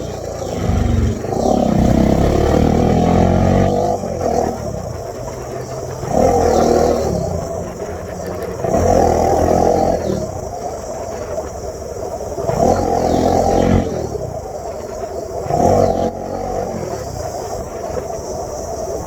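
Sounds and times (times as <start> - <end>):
motorcycle engine revving: 0.0 - 17.8.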